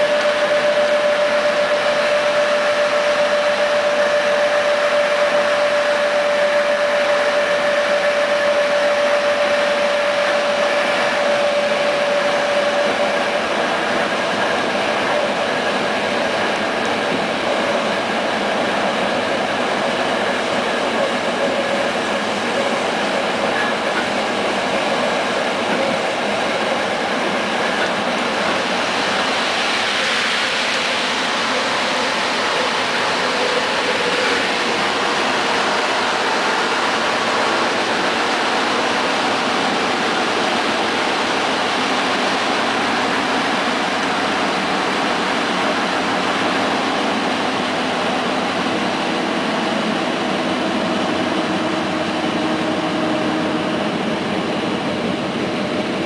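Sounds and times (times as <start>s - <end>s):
train carriage rattling: 0.0s - 56.0s
train wheels on rails: 0.0s - 56.0s.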